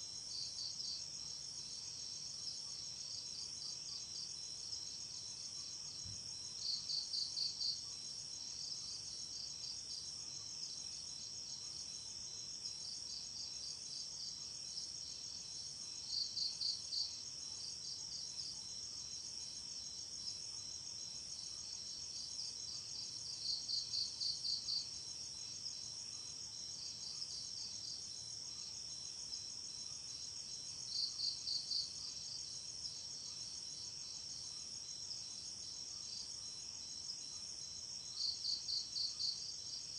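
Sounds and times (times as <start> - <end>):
loud insect chirp: 0.3 - 39.9.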